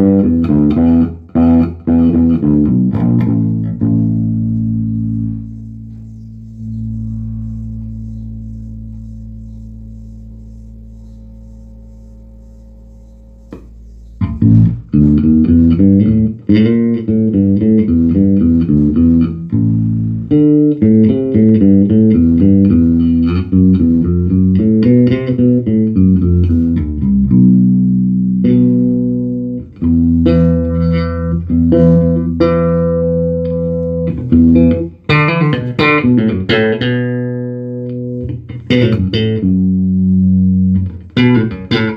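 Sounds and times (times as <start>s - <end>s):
electric bass through amp: 0.0s - 41.9s.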